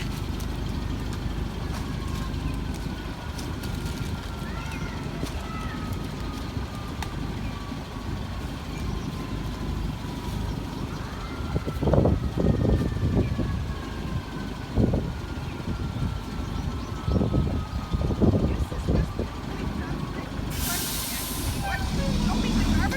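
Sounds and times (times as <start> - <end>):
garbage truck running: 0.0 - 22.9.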